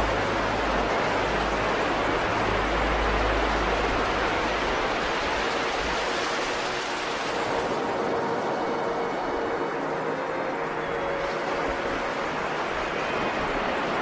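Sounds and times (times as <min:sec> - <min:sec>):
waves breaking on beach: 0:00.0 - 0:14.0.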